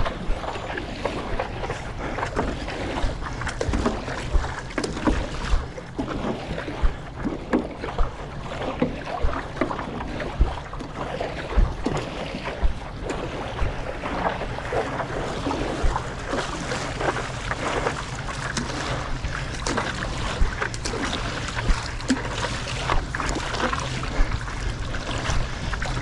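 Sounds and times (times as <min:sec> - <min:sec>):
paddle strokes splashing water: 0:00.0 - 0:26.0
water washing: 0:00.0 - 0:26.0.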